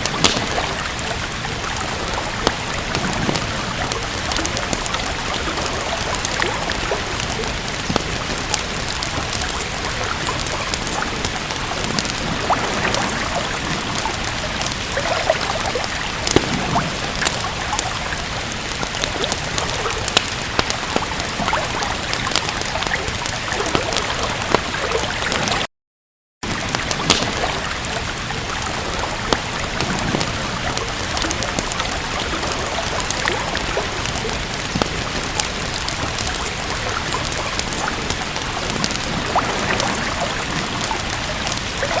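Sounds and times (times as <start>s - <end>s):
steady rain: 0.0s - 25.7s, 26.4s - 42.0s
wood fire crackling: 0.0s - 25.7s, 26.4s - 42.0s.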